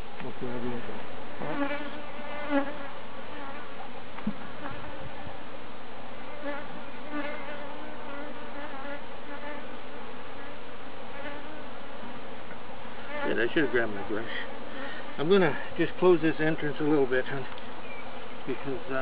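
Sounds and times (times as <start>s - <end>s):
bees buzzing: 0.4s - 19.0s.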